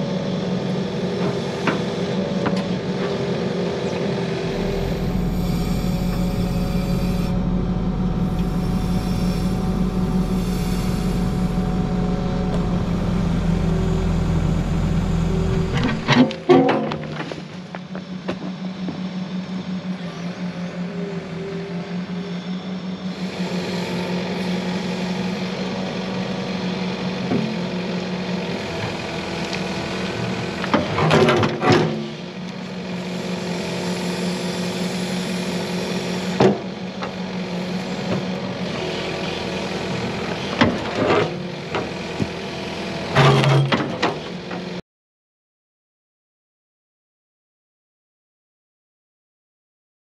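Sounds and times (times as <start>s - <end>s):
diesel excavator engine running: 0.0s - 44.8s.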